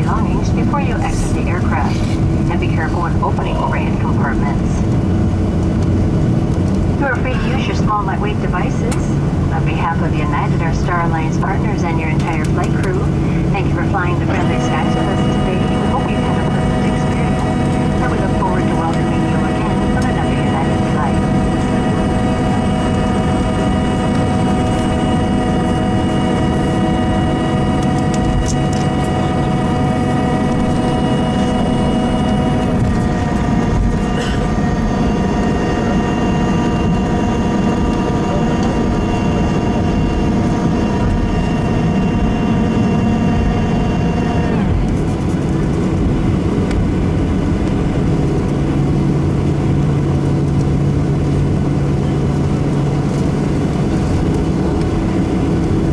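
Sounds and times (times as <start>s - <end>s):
cabin rumble: 0.0s - 55.9s
jet engine whine: 0.0s - 55.9s.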